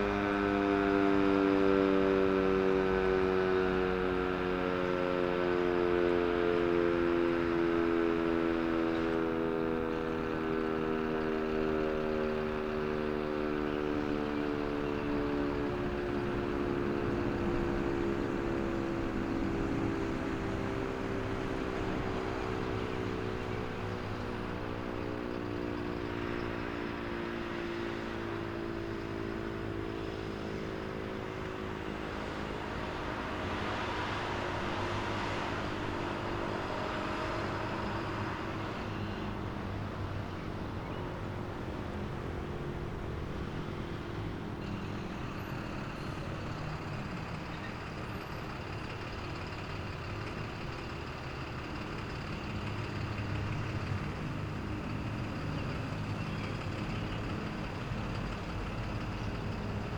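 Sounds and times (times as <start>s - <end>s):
warning siren winding down: 0.0s - 59.9s.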